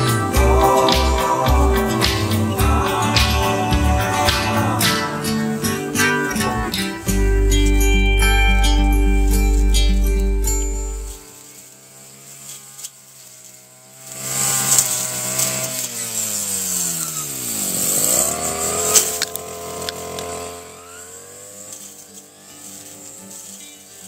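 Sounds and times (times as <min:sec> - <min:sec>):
brush cutter engine running: 0:00.0 - 0:24.0.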